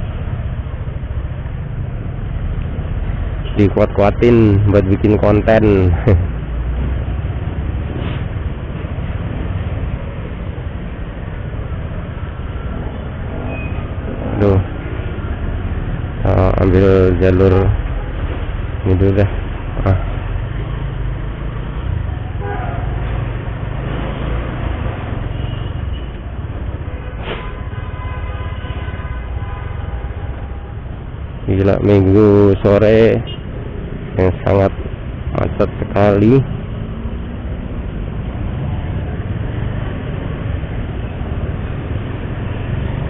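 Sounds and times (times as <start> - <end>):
heavy traffic: 0.0 - 43.0.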